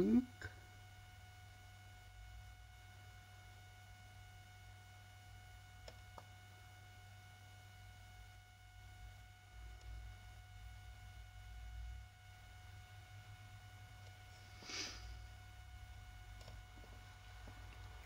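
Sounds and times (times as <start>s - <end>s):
faint electrical whine and hum: 0.0s - 18.0s.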